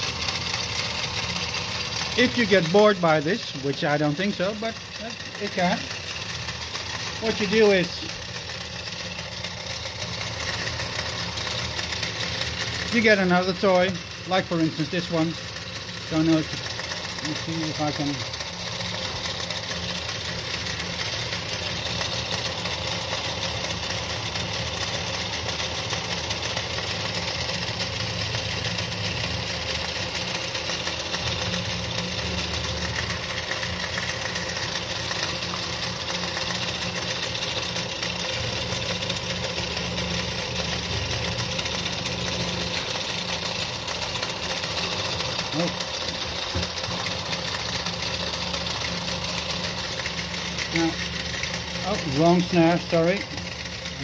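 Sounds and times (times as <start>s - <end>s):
toy steam engine whirring: 0.0s - 54.0s.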